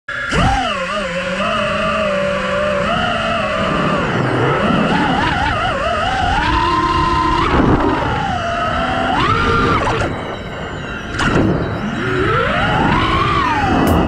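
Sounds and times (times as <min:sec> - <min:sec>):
drone motors whining: 0:00.1 - 0:14.0.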